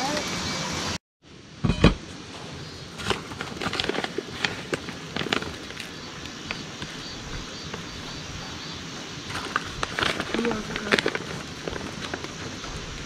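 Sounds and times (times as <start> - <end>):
steady background hiss: 0.0 - 13.0
footsteps crunching on gravel: 2.3 - 13.0.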